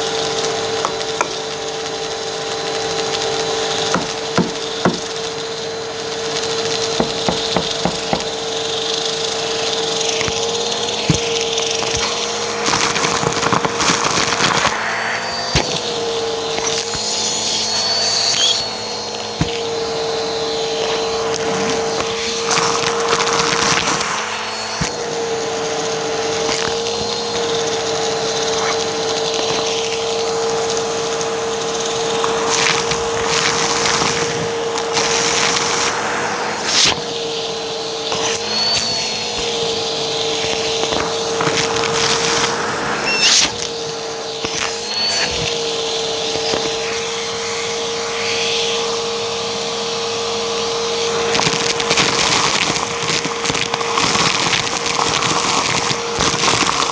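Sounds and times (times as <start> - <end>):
debris crackling up hose: 0.0 - 47.9, 50.2 - 56.9
vacuum cleaner motor whine: 0.0 - 56.9.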